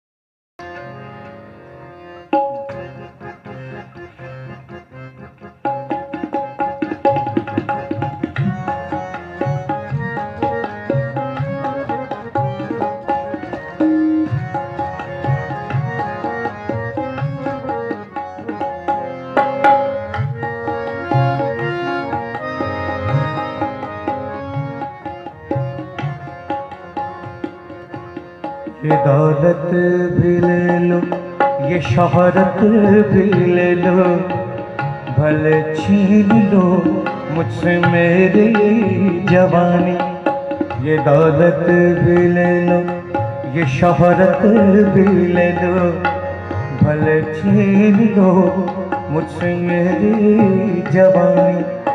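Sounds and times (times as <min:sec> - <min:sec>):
melody instrument holding long notes: 0:00.6 - 0:51.9
tabla playing steady rhythm: 0:00.6 - 0:51.9.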